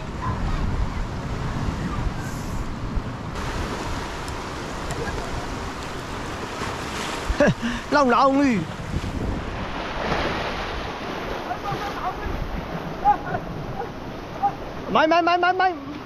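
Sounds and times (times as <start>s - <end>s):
wind buffeting microphone: 0.0s - 14.9s
surf on rocks: 0.0s - 16.0s.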